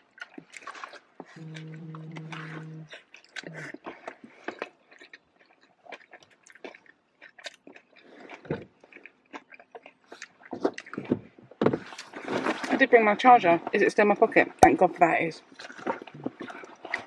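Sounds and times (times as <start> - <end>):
person chewing food: 0.0 - 12.7, 15.5 - 17.0.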